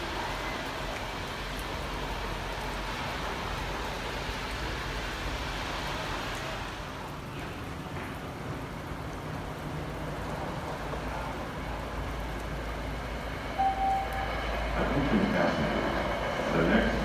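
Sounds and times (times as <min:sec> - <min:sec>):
distant trains: 0:00.0 - 0:17.0
road traffic: 0:00.0 - 0:17.0.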